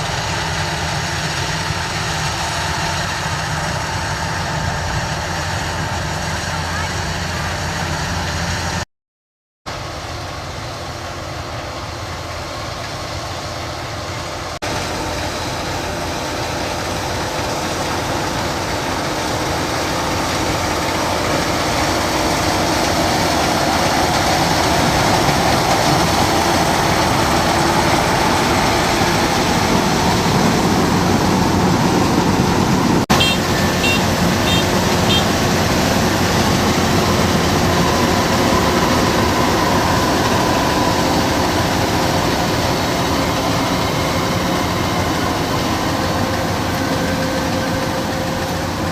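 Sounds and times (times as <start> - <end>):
combine harvester running: 0.0 - 8.8, 9.7 - 48.9.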